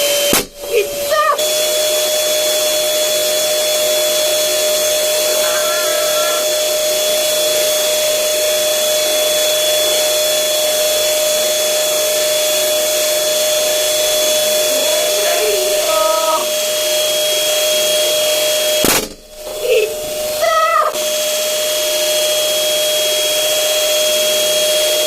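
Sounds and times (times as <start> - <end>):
air blower motor whine: 0.0 - 25.0.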